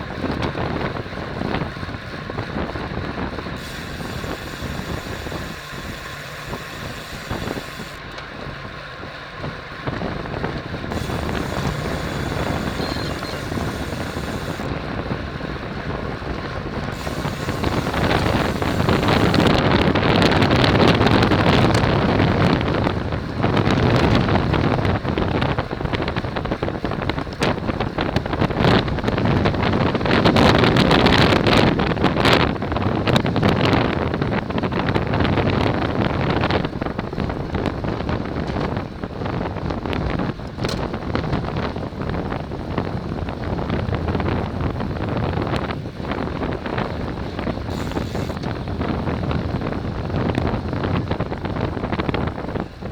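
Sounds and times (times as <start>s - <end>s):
tyre and road noise: 0.0s - 52.9s
wind rushing over microphone: 0.0s - 52.9s.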